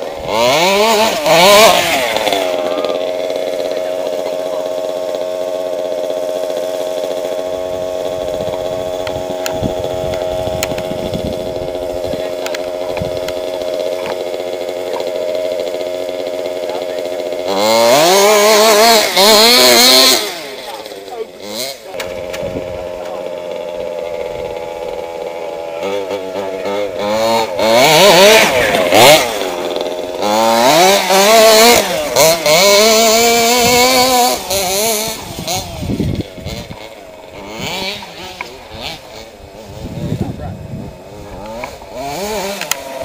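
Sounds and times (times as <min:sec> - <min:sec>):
model buggy engine revving and idling: 0:00.0 - 0:43.0.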